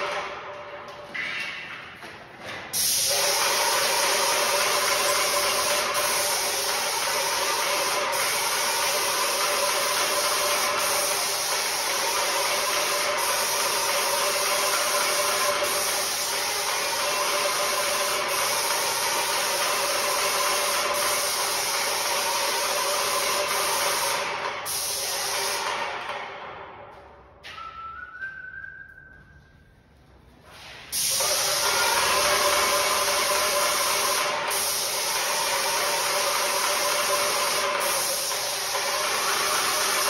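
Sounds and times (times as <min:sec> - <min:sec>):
spray gun hissing: 0:02.8 - 0:25.8, 0:30.5 - 0:40.0.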